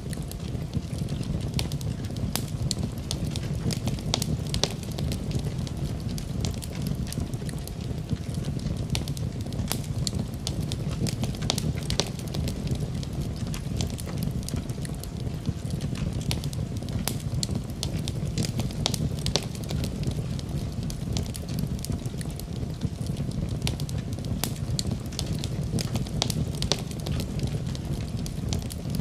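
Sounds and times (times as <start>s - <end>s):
fireplace fire crackling: 0.0s - 29.0s
low rumble of flames: 0.0s - 29.0s
sharp pops and snaps: 0.0s - 29.0s.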